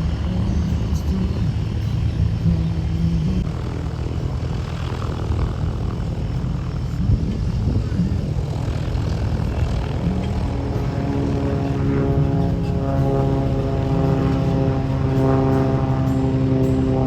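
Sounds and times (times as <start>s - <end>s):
propeller plane engine running: 0.0s - 17.0s.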